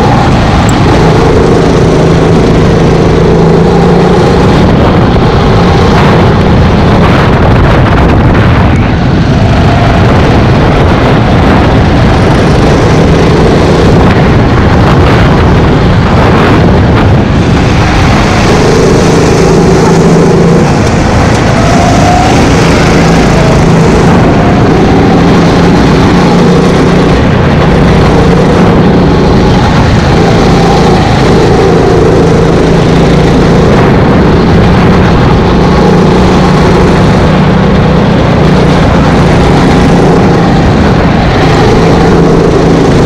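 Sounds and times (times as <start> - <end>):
go-kart engine under throttle: 0.0 - 43.0
wind rushing on microphone: 0.0 - 43.0.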